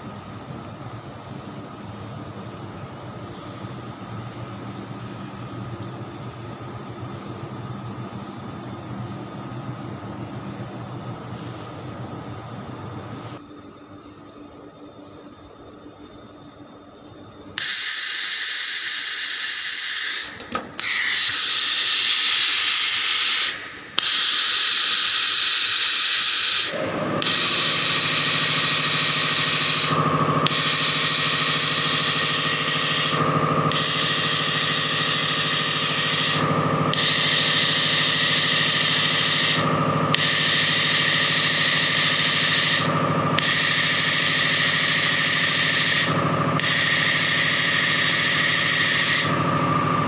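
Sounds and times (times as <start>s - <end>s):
laser welding machine hiss: 6.7s - 50.0s.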